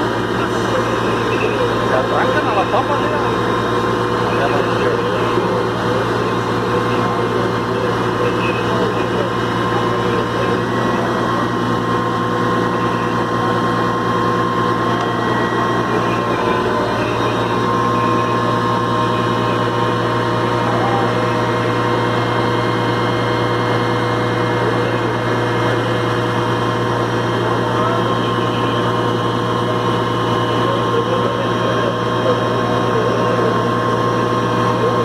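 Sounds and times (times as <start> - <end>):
large engine humming: 0.0 - 35.0.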